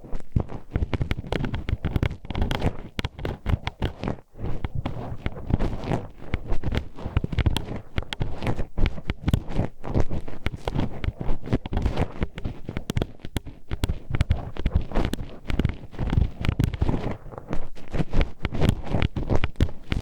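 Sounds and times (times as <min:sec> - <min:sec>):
sharp clicking and tapping: 0:00.0 - 0:20.0.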